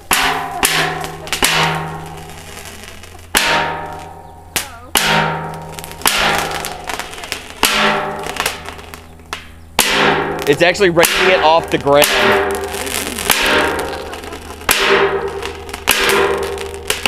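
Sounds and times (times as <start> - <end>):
fireworks banging inside metal drum: 0.0 - 17.0.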